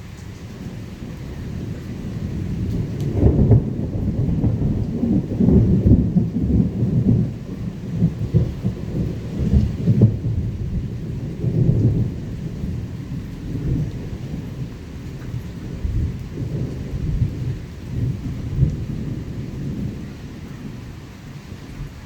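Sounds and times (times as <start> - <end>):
steady rain: 0.0 - 22.0
thunder rumbling: 0.0 - 22.0.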